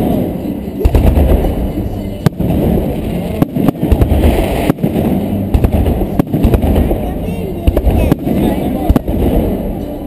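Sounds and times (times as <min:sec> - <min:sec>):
fireworks bangs: 0:00.0 - 0:10.0
low rumble of fireworks: 0:00.0 - 0:10.0.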